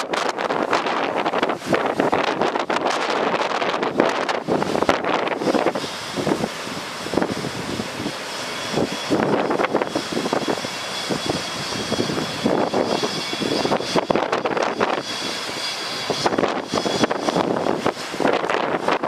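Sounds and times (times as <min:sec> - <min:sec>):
wind gusting on microphone: 0:00.0 - 0:19.0
faint high whine: 0:02.1 - 0:18.8.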